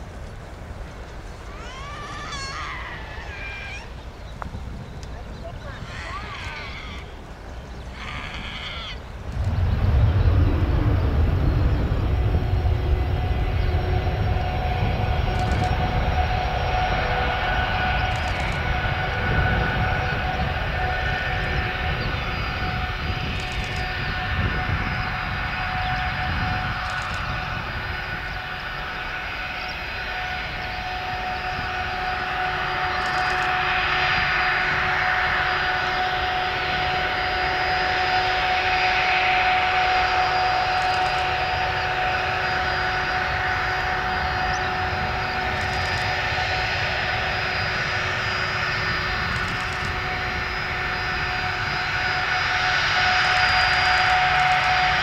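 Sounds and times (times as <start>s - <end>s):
jet engine whine: 0.0s - 55.0s
rushing jet roar: 0.0s - 55.0s.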